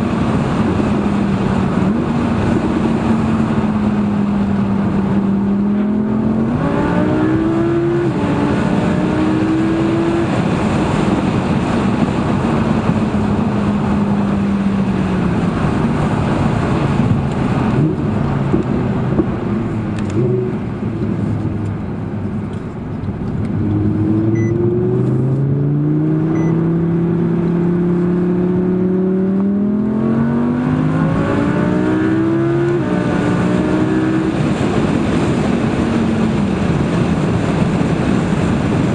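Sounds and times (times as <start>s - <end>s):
car engine accelerating through gears: 0.0s - 38.9s
road and tyre noise: 0.0s - 38.9s.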